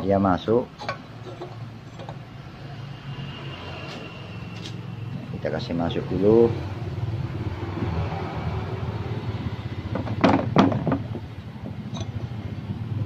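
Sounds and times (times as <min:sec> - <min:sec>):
low engine-like hum: 0:00.6 - 0:13.0.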